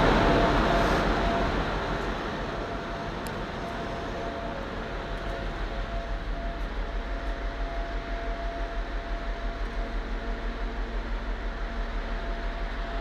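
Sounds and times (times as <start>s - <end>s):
faint steady whine: 0.0s - 13.0s
machinery rumble and hiss: 0.0s - 13.0s.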